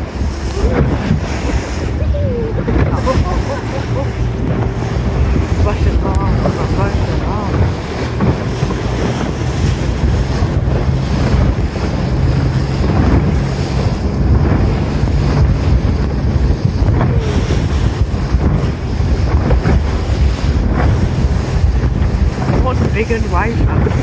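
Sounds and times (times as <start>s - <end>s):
boat engine and sea rumble: 0.0s - 24.0s
wind buffeting microphone: 0.0s - 24.0s.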